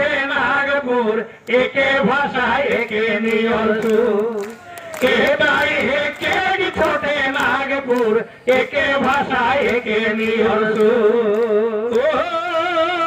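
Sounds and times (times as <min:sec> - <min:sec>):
men singing over loudspeakers: 0:00.0 - 0:13.0.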